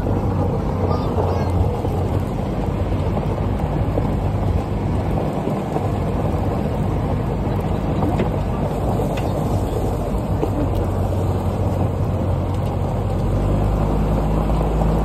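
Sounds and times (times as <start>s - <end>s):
go-kart motor humming: 0.0s - 15.0s
tyres crunching on gravel: 0.0s - 15.0s.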